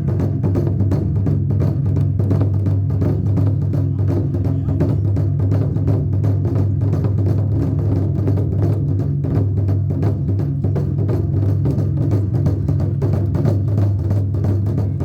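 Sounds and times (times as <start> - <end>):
drums beaten in fast rhythm: 0.0 - 15.0.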